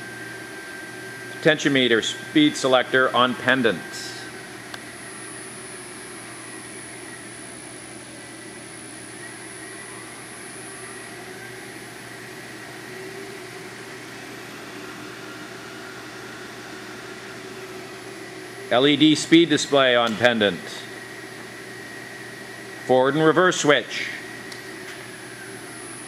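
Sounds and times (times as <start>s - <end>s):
high steady whine: 0.0s - 26.0s
milling machine mechanical hum: 0.0s - 26.0s.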